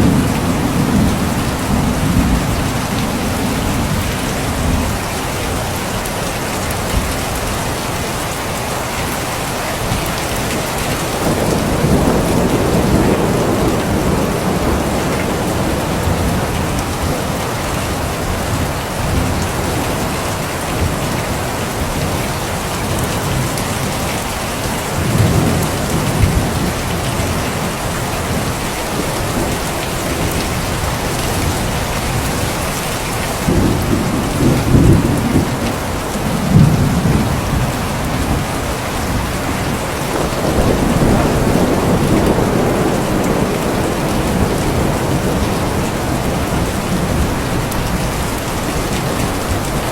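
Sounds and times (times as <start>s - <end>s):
thunder rumbling: 0.0s - 6.1s, 10.6s - 49.9s
heavy rain: 0.0s - 49.9s.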